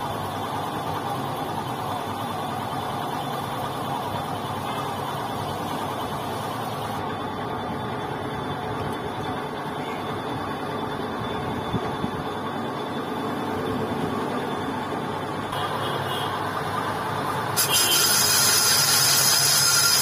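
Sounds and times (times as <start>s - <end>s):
workshop machinery running: 0.0s - 20.0s.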